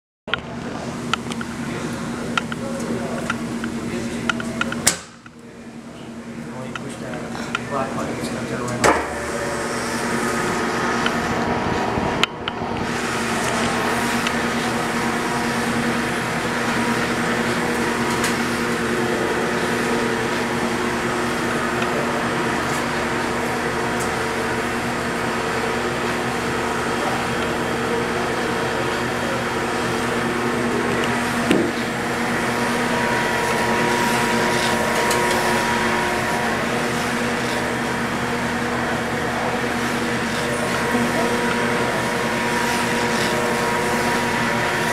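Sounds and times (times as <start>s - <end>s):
gear motor hum and whine: 0.3s - 44.9s.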